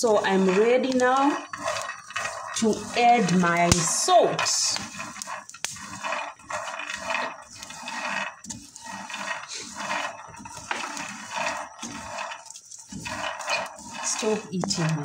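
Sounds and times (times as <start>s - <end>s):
kernels rattling in frying pan: 0.0s - 15.0s
wooden spatula stirring: 0.0s - 15.0s.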